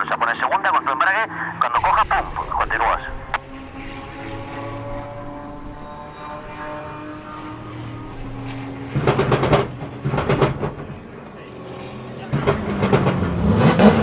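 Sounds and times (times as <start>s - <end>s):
engine droning and revving: 0.0s - 14.0s.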